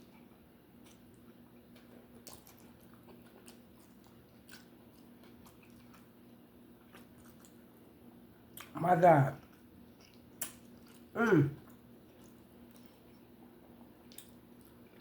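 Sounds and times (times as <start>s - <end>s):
faint close-up chewing: 0.0s - 8.8s, 9.4s - 15.0s
low steady hum: 0.0s - 15.0s.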